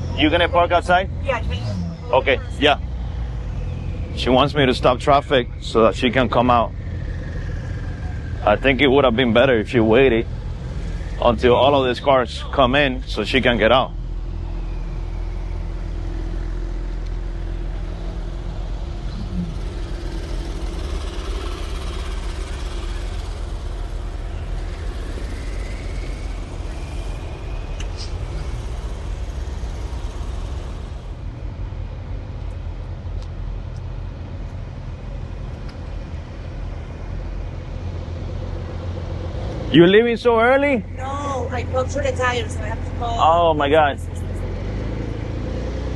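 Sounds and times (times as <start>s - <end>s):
car engines rumbling: 0.0s - 45.9s.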